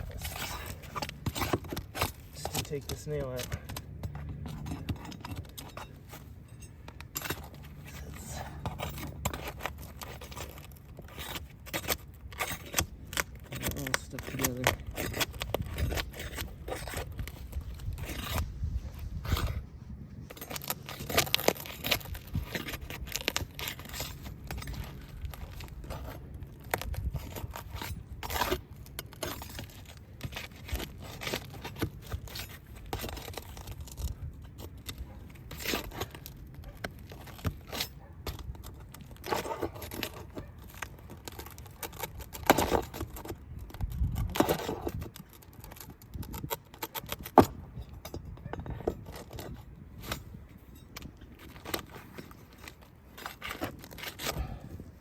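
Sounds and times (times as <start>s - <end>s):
roof shingles scraping and tearing: 0.0s - 48.0s, 48.6s - 55.0s.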